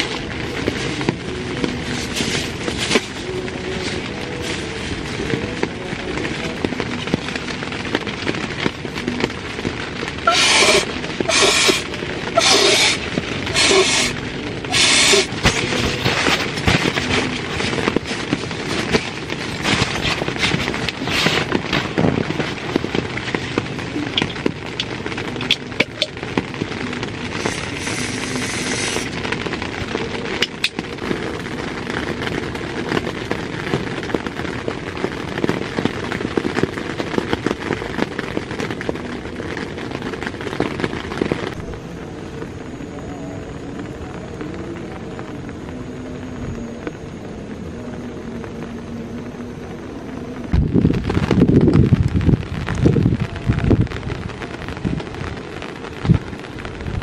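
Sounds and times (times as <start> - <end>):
heavy rain on tent fabric: 0.0 - 57.0.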